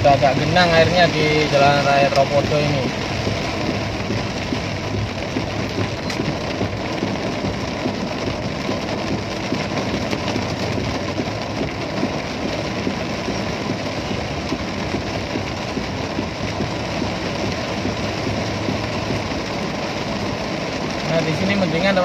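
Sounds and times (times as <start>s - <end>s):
car engine running: 0.0s - 22.0s
rain on a car roof: 0.0s - 22.0s.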